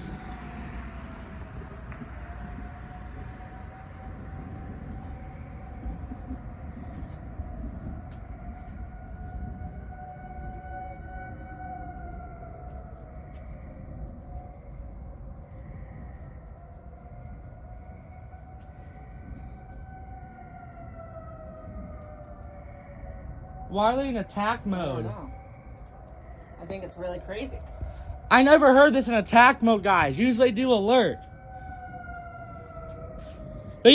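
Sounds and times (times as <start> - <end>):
crickets chirping: 0.0 - 33.9
wavering warning sirens: 0.0 - 33.9.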